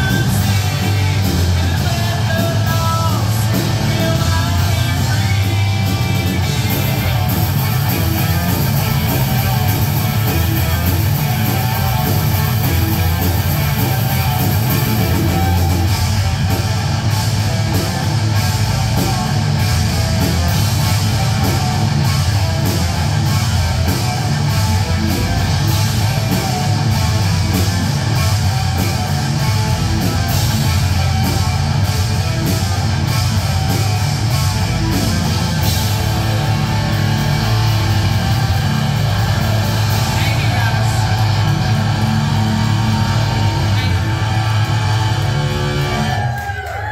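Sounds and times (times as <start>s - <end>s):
drum and cymbal hits: 0.0s - 46.9s
rock band playing live: 0.0s - 46.9s.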